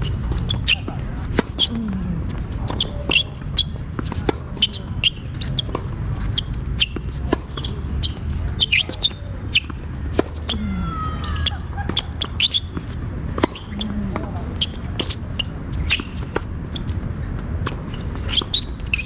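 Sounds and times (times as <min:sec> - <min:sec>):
sneakers squeaking: 0:00.0 - 0:19.0.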